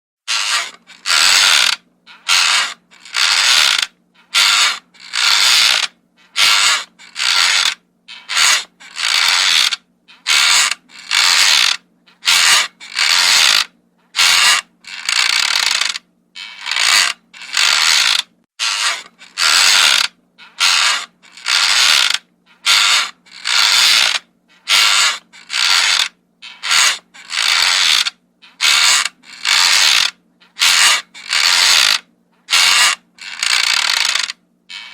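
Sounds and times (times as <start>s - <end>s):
wooden rocking chair creaking: 0.3s - 34.9s.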